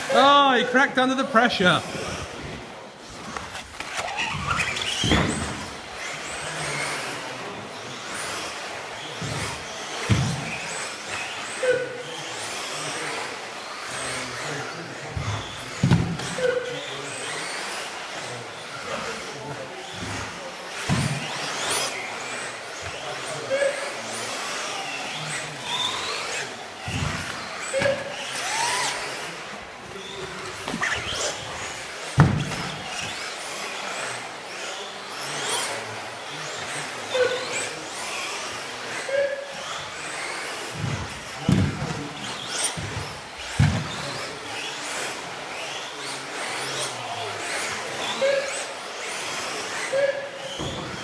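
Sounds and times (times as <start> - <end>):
rc car motors whining: 0.0 - 51.0.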